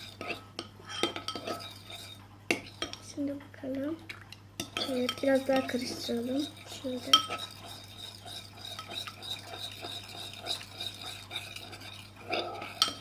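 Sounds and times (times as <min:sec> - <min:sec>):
utensil stirring glue: 0:01.0 - 0:03.0, 0:04.6 - 0:13.0.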